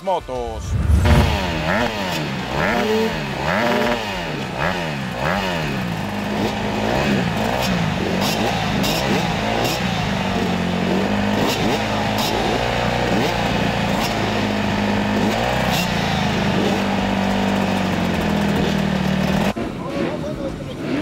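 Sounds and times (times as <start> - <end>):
throttle blips revving: 0.7 - 17.8
motocross bikes idling: 1.2 - 20.8.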